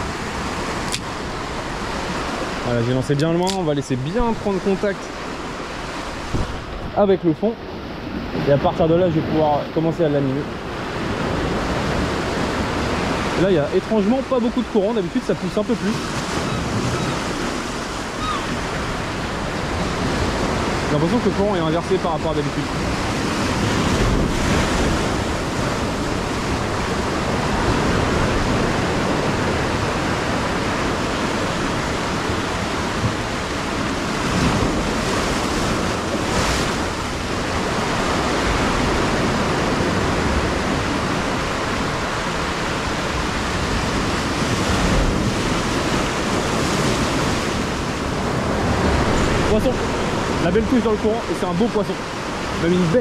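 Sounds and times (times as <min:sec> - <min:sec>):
heavy wave crashes: 0:00.0 - 0:53.0
surf washing over rocks: 0:00.0 - 0:53.0.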